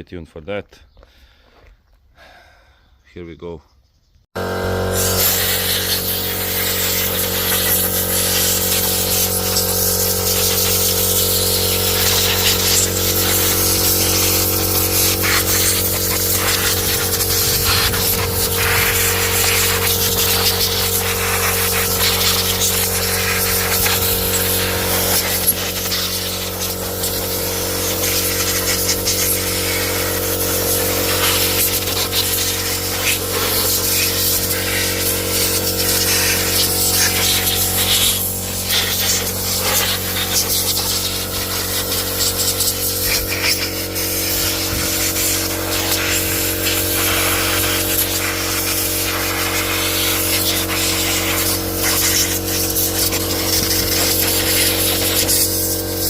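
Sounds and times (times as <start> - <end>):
motor hum: 4.4 - 56.0
hissing water spray: 4.6 - 56.0.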